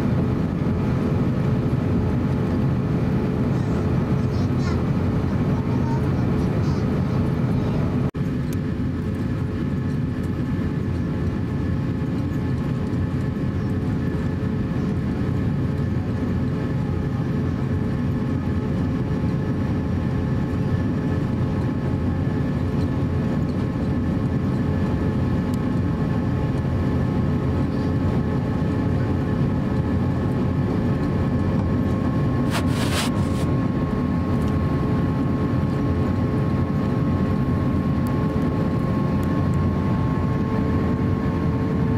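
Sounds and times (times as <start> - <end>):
jet engines idling low rumble: 0.0 - 41.9.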